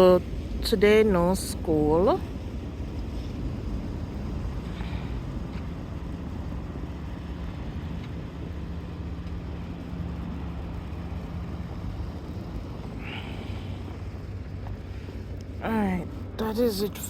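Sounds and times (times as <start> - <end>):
motor vehicle engine running: 0.0 - 17.0.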